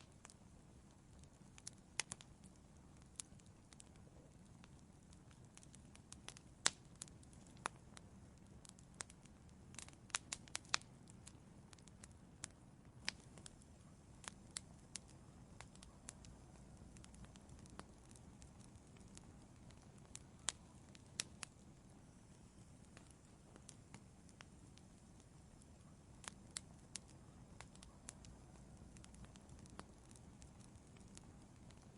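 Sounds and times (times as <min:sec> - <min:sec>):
faint low rumble: 0:00.0 - 0:31.9
wood fire crackling: 0:00.0 - 0:31.9.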